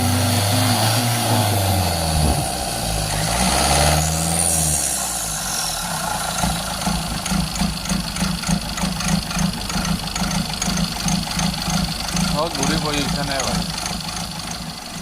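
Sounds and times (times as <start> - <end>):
diesel engine idling unevenly: 0.0 - 15.0.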